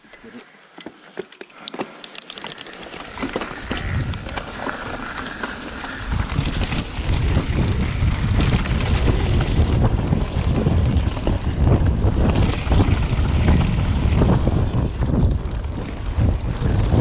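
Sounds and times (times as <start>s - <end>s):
bike tyres rumbling on dirt trail: 0.0s - 17.0s
wind buffeting microphone: 2.8s - 17.0s.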